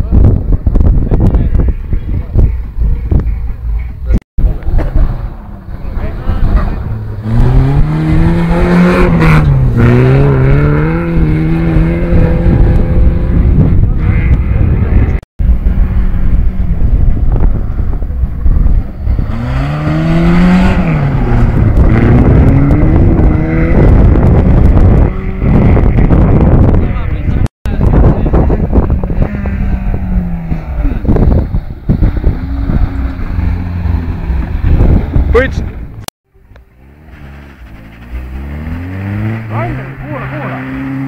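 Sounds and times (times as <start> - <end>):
gravel and tyre noise: 0.0 - 41.0
rally car engine revving: 4.4 - 41.0.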